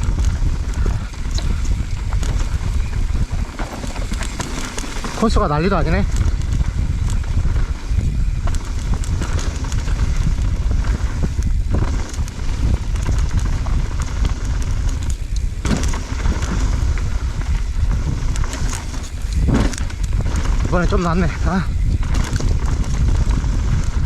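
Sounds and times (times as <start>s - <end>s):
bike rattling over stones: 0.0s - 24.0s
tyres crackling on dirt: 0.0s - 24.0s
wind rumble on microphone: 0.0s - 24.0s.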